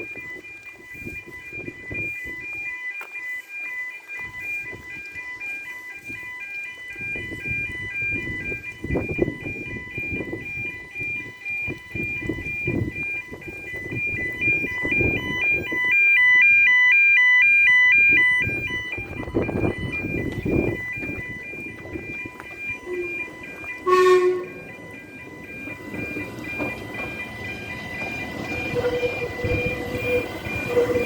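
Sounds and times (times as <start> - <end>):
level crossing two-tone alarm: 0.0 - 31.0.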